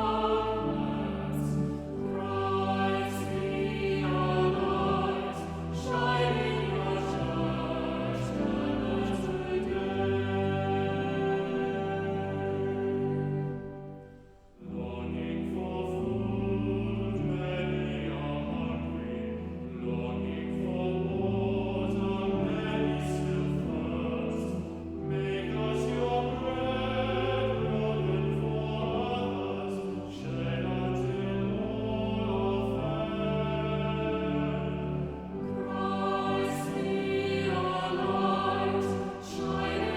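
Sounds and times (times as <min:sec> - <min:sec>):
hymn singing: 0:00.0 - 0:39.9.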